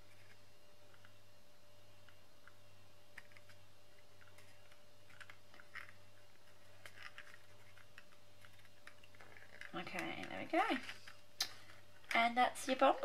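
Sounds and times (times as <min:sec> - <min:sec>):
low steady hum: 0:00.0 - 0:13.0
paper crackling and clicking: 0:02.4 - 0:13.0.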